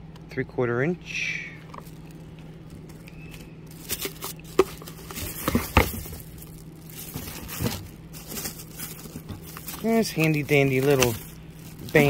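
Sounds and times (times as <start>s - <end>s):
plastic packaging crinkling: 1.7s - 12.0s.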